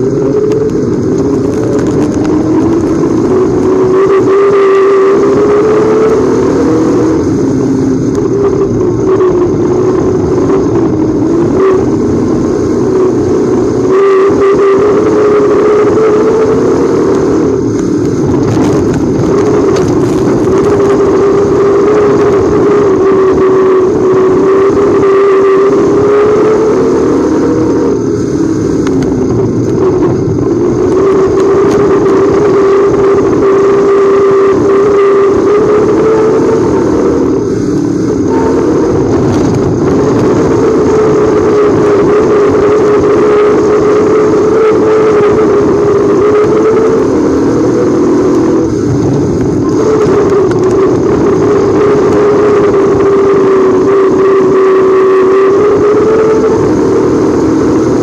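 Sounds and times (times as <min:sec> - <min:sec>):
race car engines running hard: 0:00.0 - 0:58.0.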